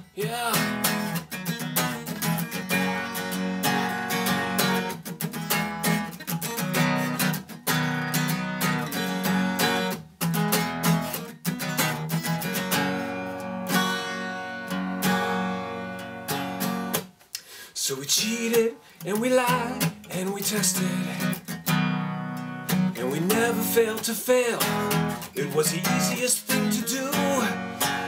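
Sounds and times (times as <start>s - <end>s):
acoustic guitar strumming: 0.0s - 17.2s, 18.0s - 28.0s.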